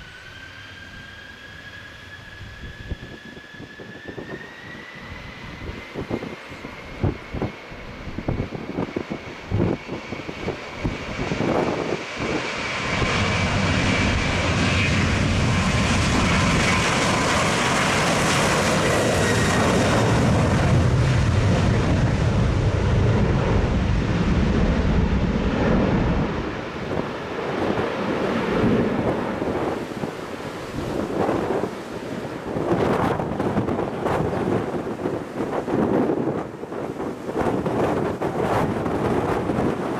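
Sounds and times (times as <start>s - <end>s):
jet engines at takeoff: 0.0s - 39.9s
wind buffeting microphone: 2.3s - 39.9s.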